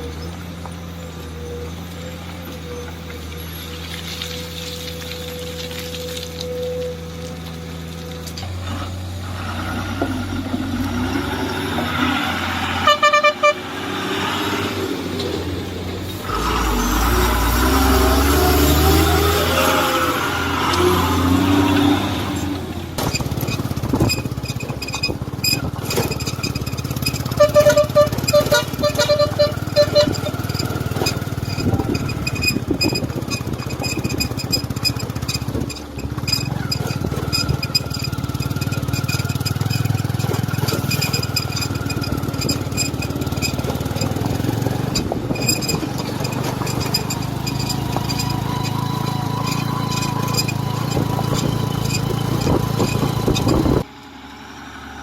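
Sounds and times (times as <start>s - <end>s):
diesel machinery droning: 0.0s - 55.0s.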